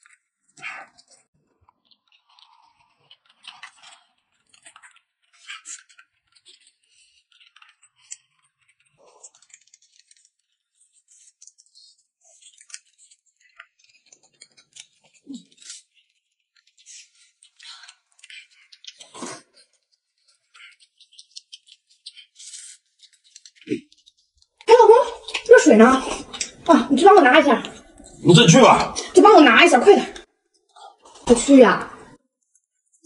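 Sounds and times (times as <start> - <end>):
chewing and slurping noodles: 0.0 - 31.3.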